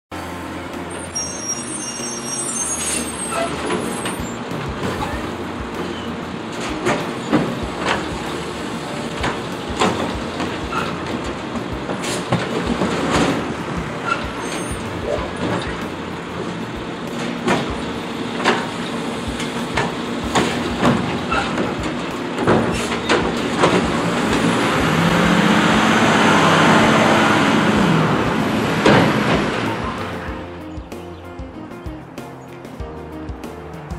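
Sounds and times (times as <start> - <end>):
diesel engine revving: 0.1 - 32.1
garbage truck running: 0.1 - 33.9
hydraulic arm lifting bins: 0.2 - 30.4
bins banging and knocking: 2.8 - 30.5.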